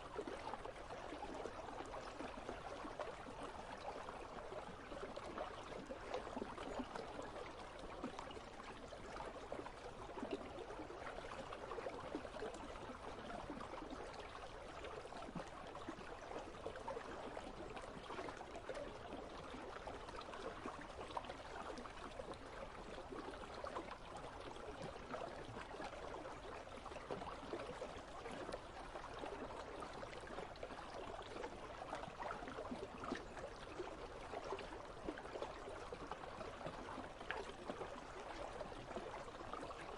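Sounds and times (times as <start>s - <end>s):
river water trickling: 0.0s - 39.9s.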